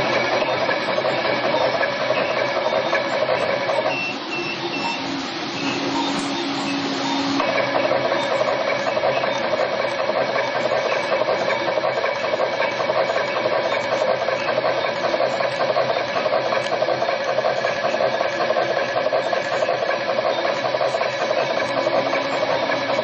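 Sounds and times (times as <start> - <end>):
steady machine tones: 0.0 - 23.0
wire stripping machine running: 0.0 - 23.0.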